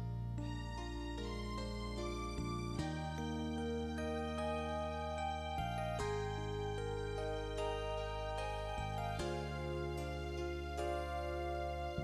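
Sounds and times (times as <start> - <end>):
sustained instrumental music: 0.0 - 12.0.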